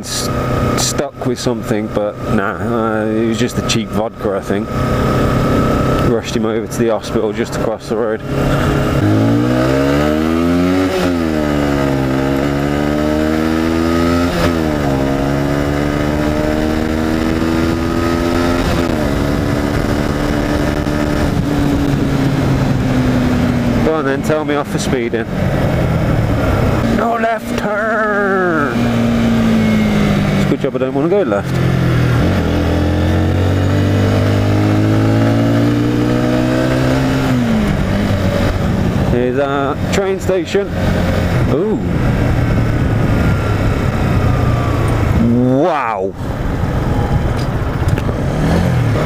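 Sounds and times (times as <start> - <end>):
motorcycle engine pulling through gears: 0.1 - 27.7, 28.7 - 45.3.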